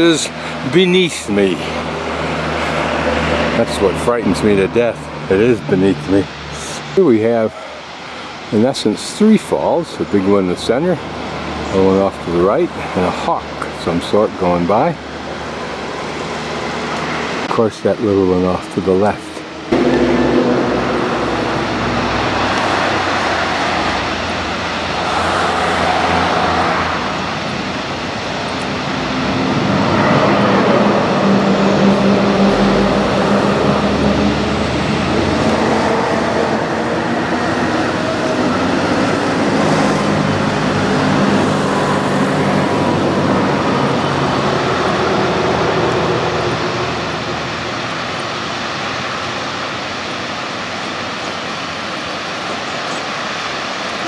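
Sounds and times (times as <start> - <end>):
passing vehicle engines droning: 0.0 - 50.4
steady rushing noise: 0.0 - 54.0.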